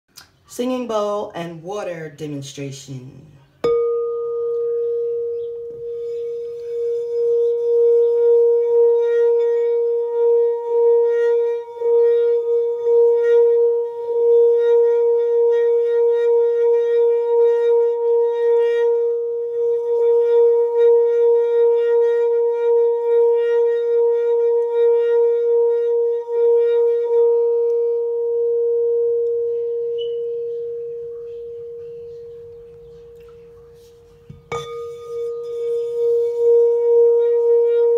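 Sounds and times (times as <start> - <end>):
singing bowl ringing tone: 3.4 - 37.9.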